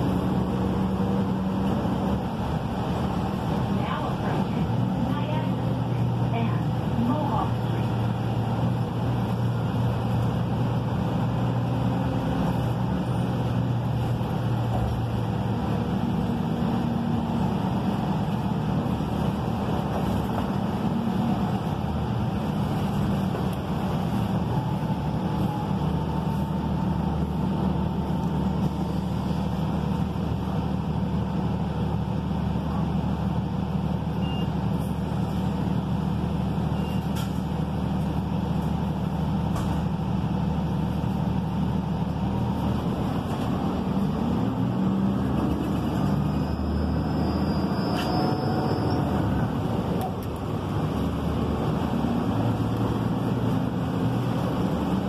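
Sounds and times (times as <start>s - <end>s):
bus diesel engine: 0.0s - 55.0s
road rumble: 0.0s - 55.0s.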